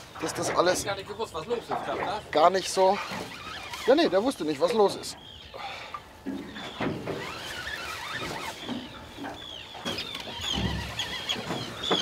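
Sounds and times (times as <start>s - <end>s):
seabirds calling: 0.0s - 12.0s.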